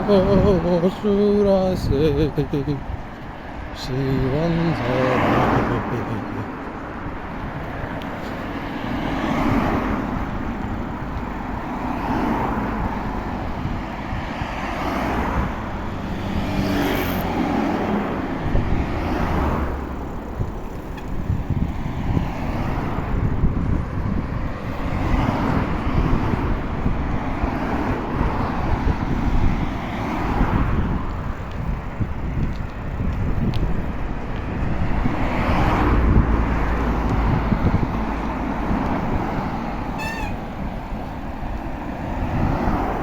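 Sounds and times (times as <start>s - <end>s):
cars passing: 0.0s - 43.0s
low traffic rumble: 0.0s - 43.0s.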